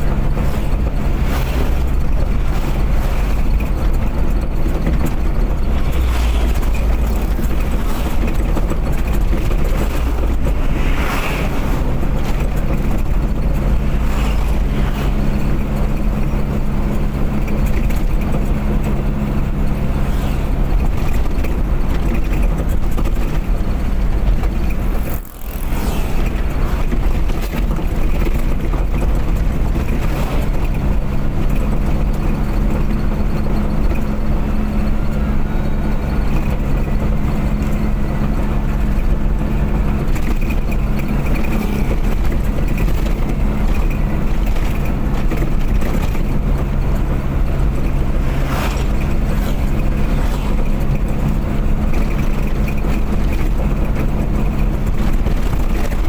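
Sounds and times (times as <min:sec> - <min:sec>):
road and wind noise: 0:00.0 - 0:56.0
vehicle engine drone: 0:00.0 - 0:56.0.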